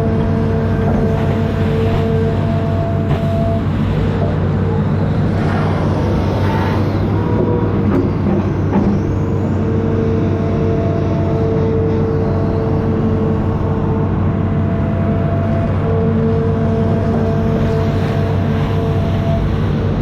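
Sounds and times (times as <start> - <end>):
diesel engine running: 0.0 - 20.0
steady whine: 0.0 - 20.0.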